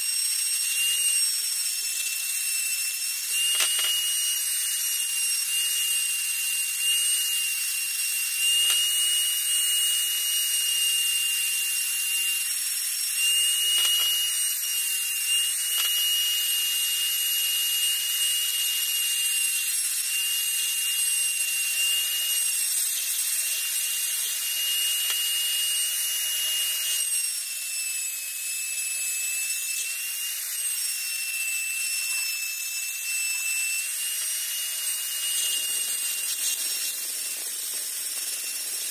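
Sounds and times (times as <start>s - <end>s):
rotary tool grinding whine: 0.0s - 38.9s.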